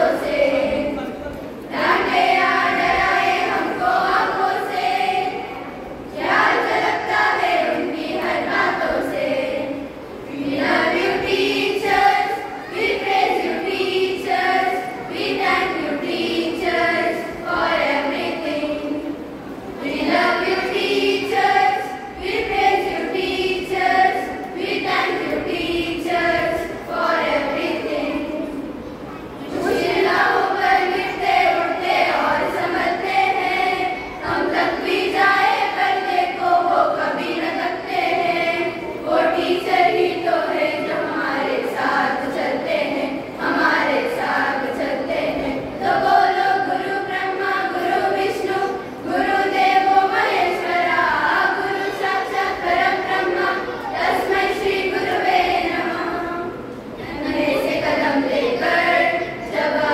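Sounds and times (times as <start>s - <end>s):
group singing: 0.0s - 1.1s, 1.7s - 19.2s, 19.8s - 28.7s, 29.5s - 59.9s.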